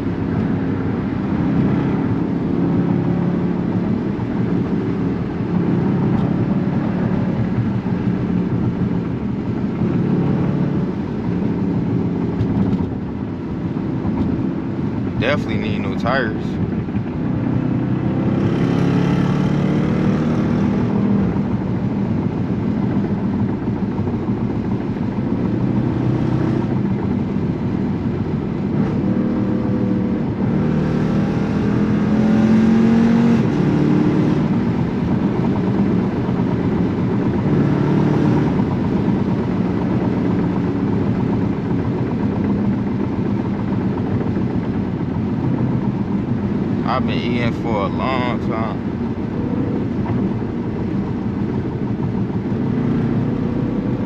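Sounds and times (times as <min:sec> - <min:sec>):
car engine cruising: 0:00.0 - 0:54.0
tyre and road noise: 0:00.0 - 0:54.0.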